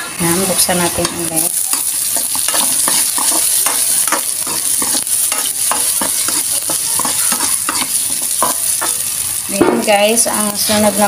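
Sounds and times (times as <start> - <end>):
food sizzling in a wok: 0.0 - 11.0
metal spatula scraping a pan: 0.2 - 9.2.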